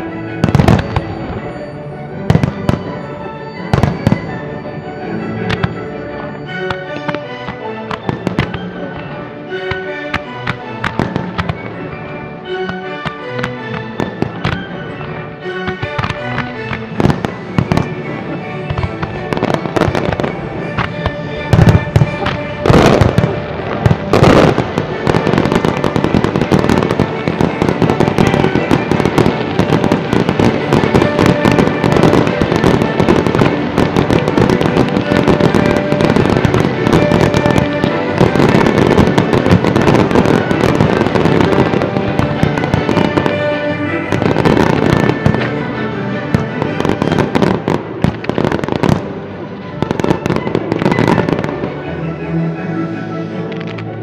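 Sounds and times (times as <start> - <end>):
fireworks bursting: 0.0 - 51.8
recorded music: 0.0 - 54.0.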